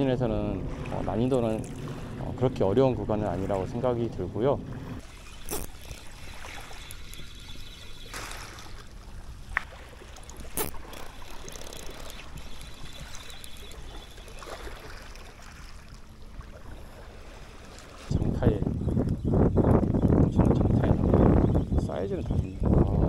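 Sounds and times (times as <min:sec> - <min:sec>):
seawater lapping on rocky shore: 0:00.0 - 0:19.6.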